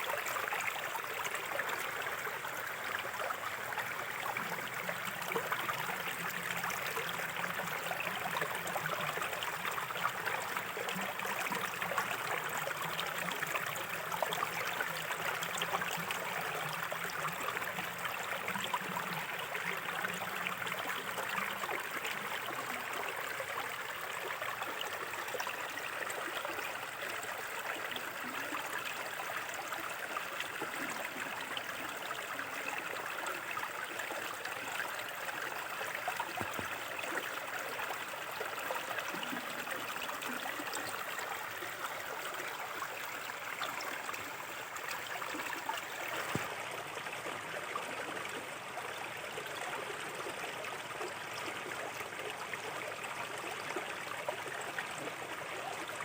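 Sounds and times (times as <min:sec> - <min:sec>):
river babbling over stones: 0:00.0 - 0:47.4.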